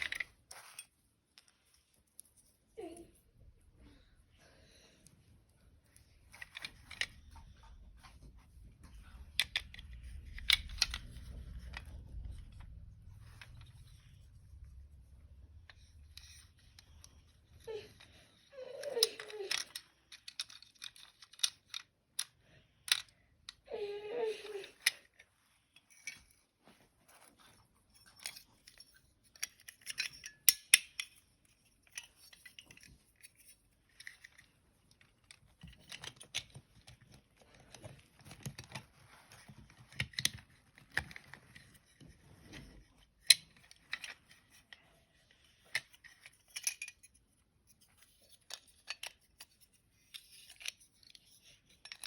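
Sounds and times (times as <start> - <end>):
small parts and tools rattling: 0.0 - 3.2, 5.0 - 52.0.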